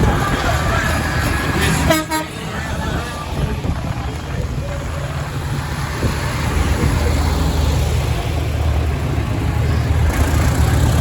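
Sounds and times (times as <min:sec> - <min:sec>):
tractor engines passing: 0:00.0 - 0:11.0.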